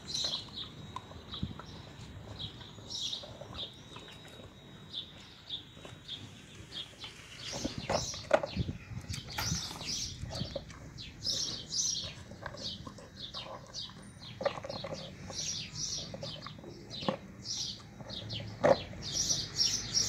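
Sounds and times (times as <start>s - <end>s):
dog chewing and crunching: 0.0s - 20.0s
small birds chirping: 0.0s - 20.0s.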